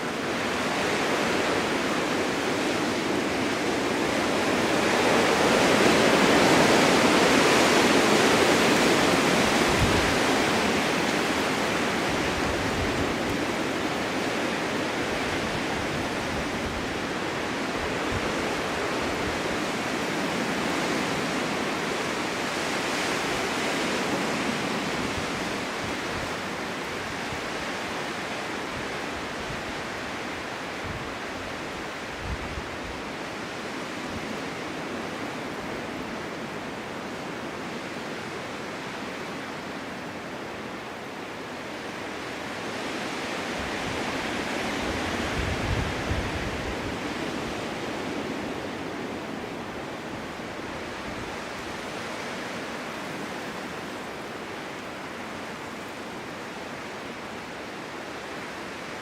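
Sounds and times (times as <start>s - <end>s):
wind blowing in snowstorm: 0.0s - 59.0s.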